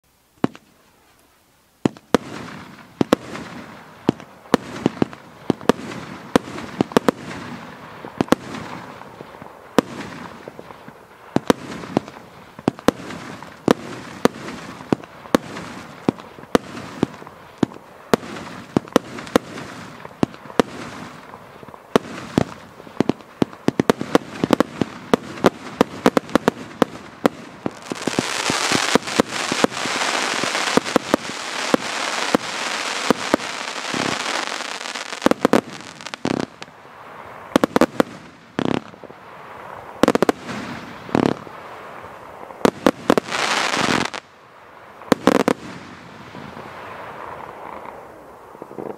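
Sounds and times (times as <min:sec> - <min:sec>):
firework launch bangs and bursts: 0:01.8 - 0:36.7, 0:37.5 - 0:39.0, 0:45.1 - 0:48.0
firework hiss: 0:01.8 - 0:44.2.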